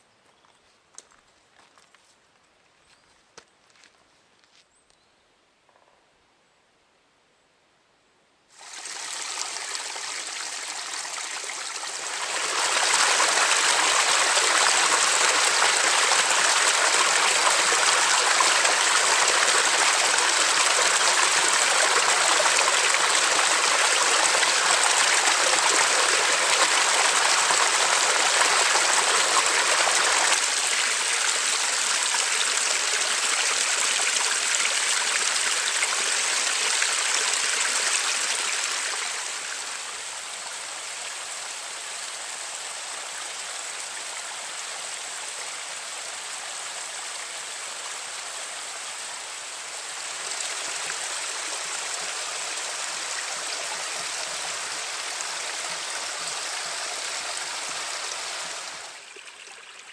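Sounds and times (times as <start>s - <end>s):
brook splashing over cascade: 8.5s - 59.9s.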